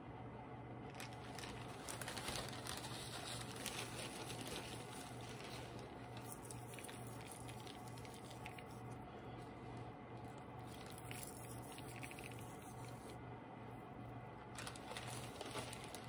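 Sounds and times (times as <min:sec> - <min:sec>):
low steady hum: 0:00.0 - 0:16.0
plastic bag rustling: 0:00.9 - 0:13.2, 0:14.4 - 0:16.0.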